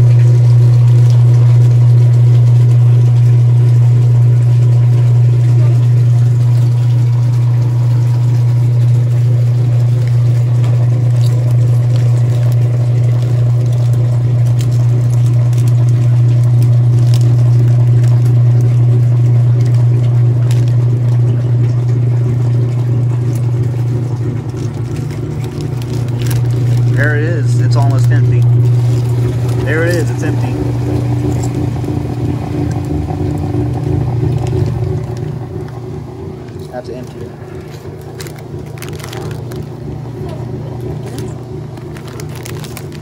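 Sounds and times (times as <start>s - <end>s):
washing machine motor humming: 0.0s - 43.0s.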